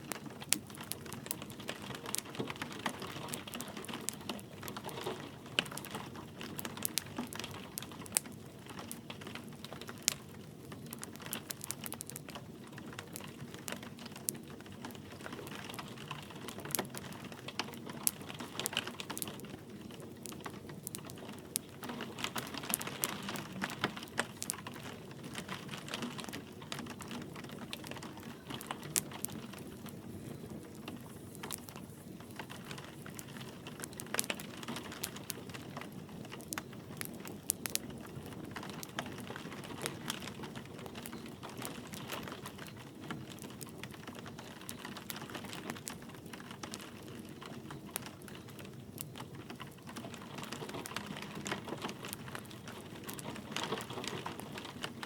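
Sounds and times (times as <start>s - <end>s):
light rain hiss: 0.0s - 55.0s
wood fire crackling and popping: 0.0s - 55.0s.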